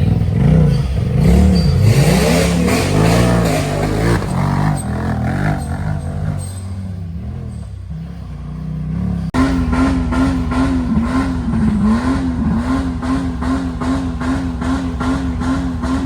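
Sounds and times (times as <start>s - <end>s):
off-road vehicle engine running hard: 0.0s - 16.0s.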